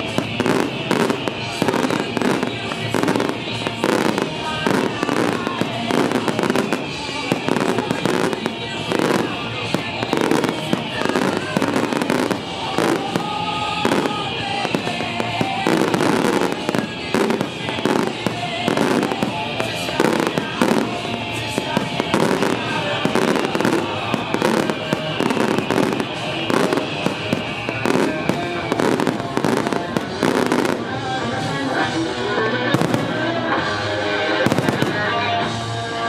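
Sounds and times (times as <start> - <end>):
fireworks whistles falling: 0.0 - 30.9
fireworks bangs: 0.0 - 36.0.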